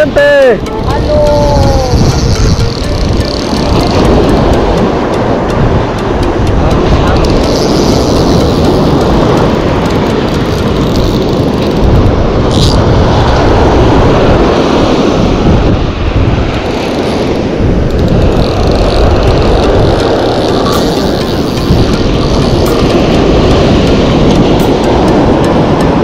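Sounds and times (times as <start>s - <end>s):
breaking surf: 0.0s - 26.0s
wind buffeting microphone: 0.0s - 26.0s.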